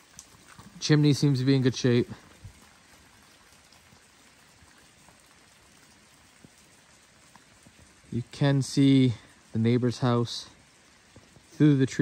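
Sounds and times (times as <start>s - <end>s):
faint light rain: 0.0s - 12.0s.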